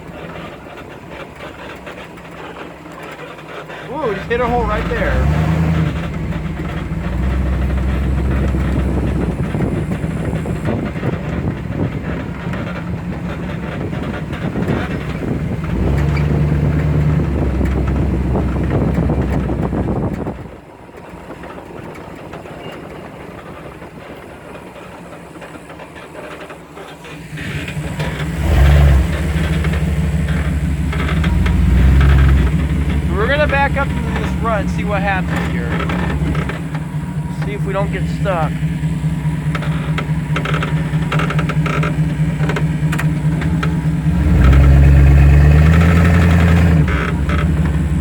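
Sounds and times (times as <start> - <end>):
pickup engine pulling through mud: 0.0 - 48.0.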